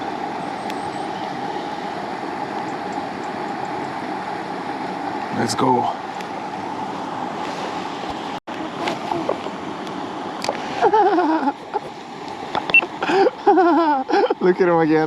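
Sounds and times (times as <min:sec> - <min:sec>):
river water rushing: 0:00.0 - 0:14.3.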